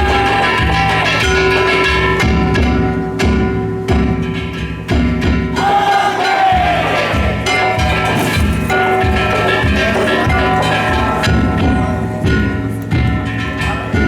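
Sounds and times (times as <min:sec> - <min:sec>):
hand gongs ringing: 0:00.0 - 0:14.0
large drum beats: 0:00.0 - 0:14.0.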